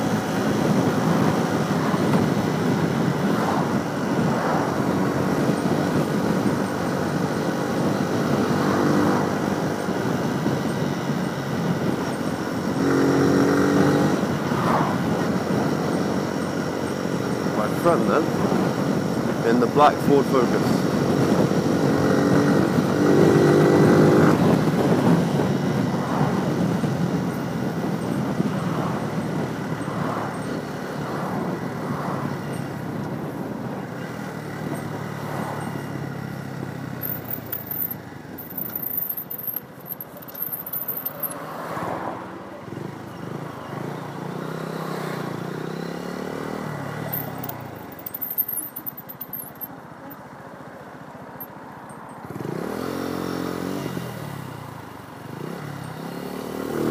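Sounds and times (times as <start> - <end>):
rush of road noise: 0.0 - 56.9.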